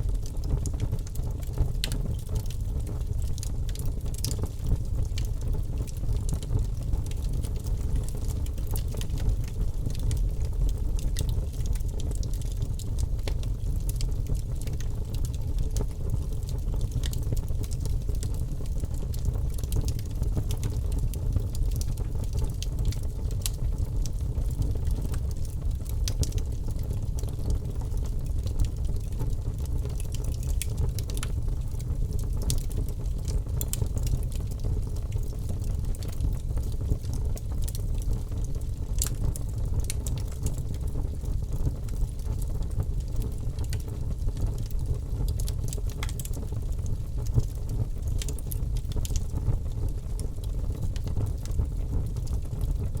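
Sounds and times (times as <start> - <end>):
fire crackling and popping: 0.0 - 53.0
low rumble of fire: 0.0 - 53.0.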